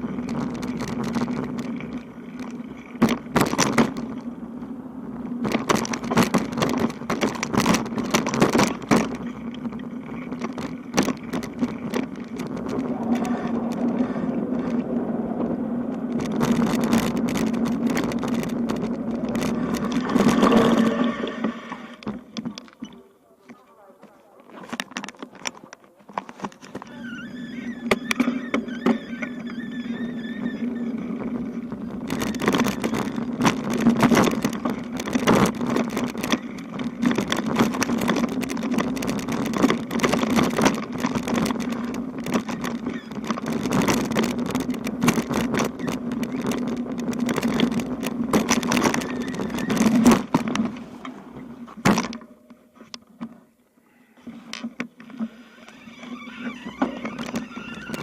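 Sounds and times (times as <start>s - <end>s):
bicycle tyre hum: 0.0s - 23.0s, 26.5s - 58.0s
bike rattling: 0.0s - 53.6s, 54.2s - 58.0s.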